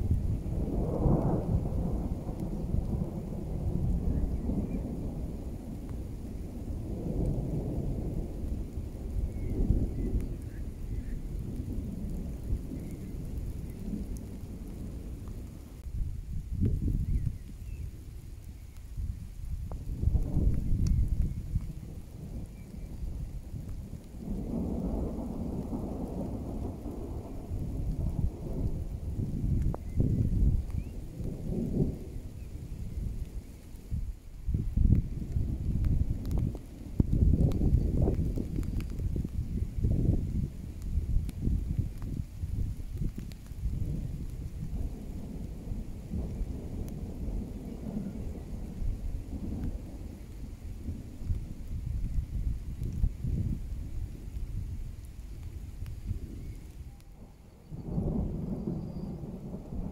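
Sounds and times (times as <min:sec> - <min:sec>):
thunder rumbling: 0:00.0 - 0:59.9.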